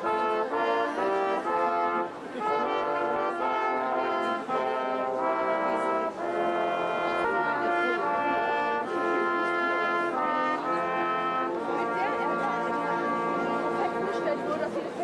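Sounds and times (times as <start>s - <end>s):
brass playing held chords: 0.0s - 15.0s.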